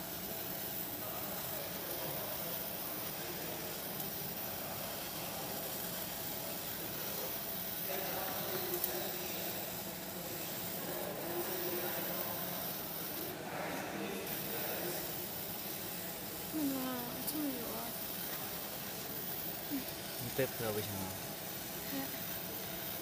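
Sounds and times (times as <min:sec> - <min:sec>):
laser machine hissing: 0:00.0 - 0:23.0
faint voices talking: 0:00.2 - 0:23.0.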